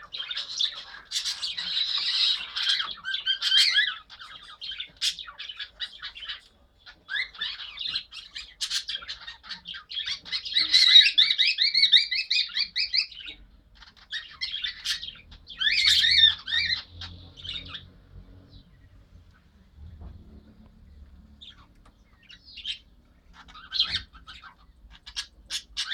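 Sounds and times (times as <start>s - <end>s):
pet birds chattering and squawking: 0.0s - 25.9s.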